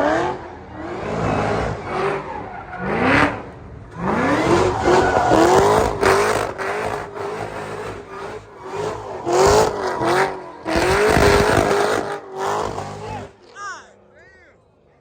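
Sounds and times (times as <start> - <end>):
car engine revving: 0.0 - 14.1
supercharger whine: 0.0 - 14.2.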